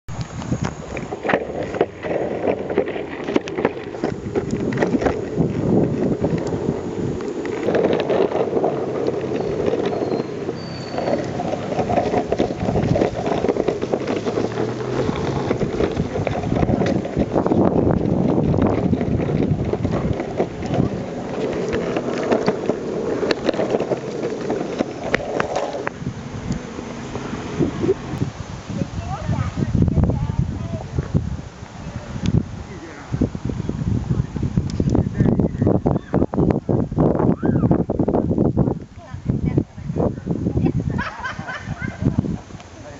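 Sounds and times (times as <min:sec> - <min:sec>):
skateboard wheels rolling on pavement: 0:00.1 - 0:42.9
wind buffeting microphone: 0:00.1 - 0:42.9.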